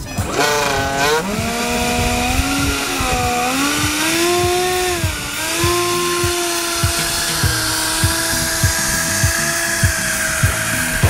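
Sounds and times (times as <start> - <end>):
electric motor whining: 0.0 - 11.0
low thumps: 0.0 - 11.0.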